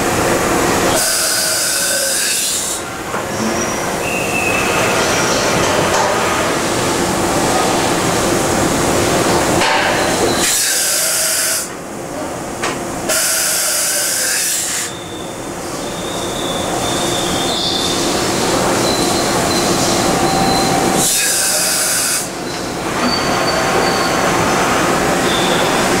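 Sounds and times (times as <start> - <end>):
machine running with high whines: 0.0 - 26.0.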